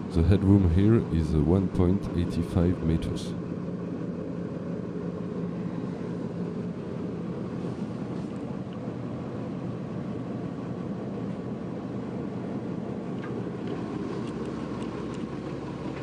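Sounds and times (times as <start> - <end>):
diesel engines idling: 0.0 - 16.0.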